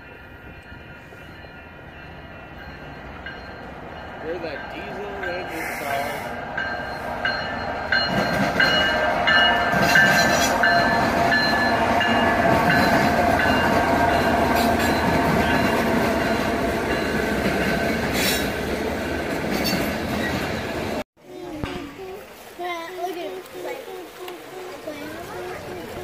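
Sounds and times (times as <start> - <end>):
diesel locomotive engines: 0.0 - 21.0, 22.0 - 26.0
freight cars rolling on rails: 0.0 - 22.3, 23.0 - 26.0.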